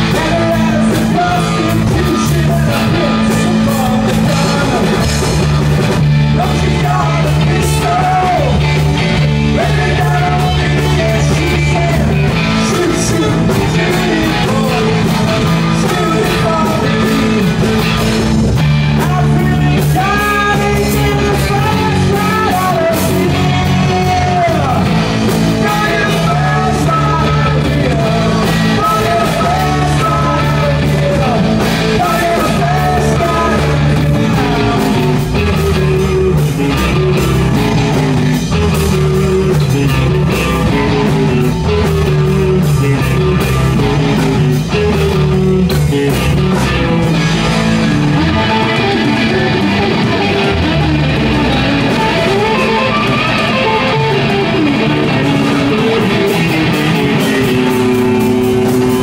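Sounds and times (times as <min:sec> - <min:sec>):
drum kit steady beat: 0:00.0 - 0:59.0
electric guitars: 0:00.0 - 0:59.0.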